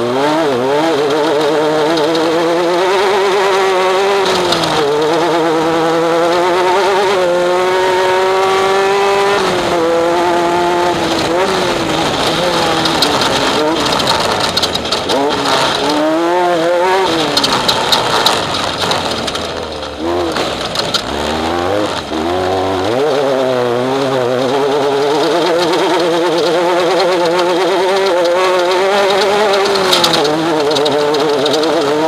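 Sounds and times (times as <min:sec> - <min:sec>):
race vehicle engine revving: 0:00.0 - 0:32.0.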